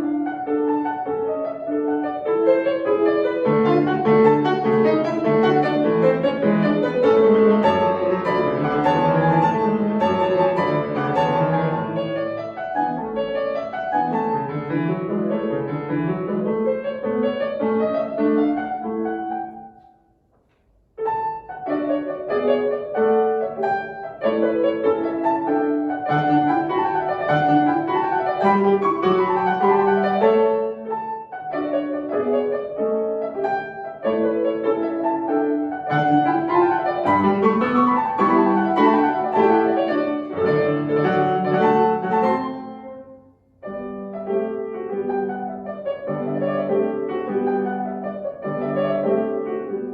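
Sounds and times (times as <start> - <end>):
solo piano classical music: 0.0 - 49.9.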